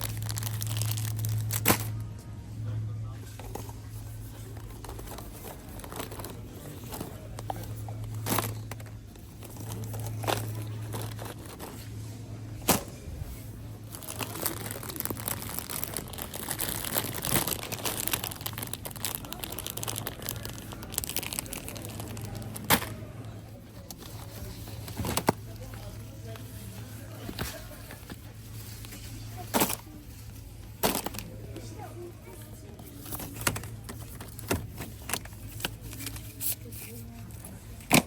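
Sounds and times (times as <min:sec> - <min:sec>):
plastic packets crinkling: 0:00.0 - 0:02.0, 0:03.4 - 0:11.9, 0:13.7 - 0:38.0
steady low hum: 0:00.0 - 0:38.0.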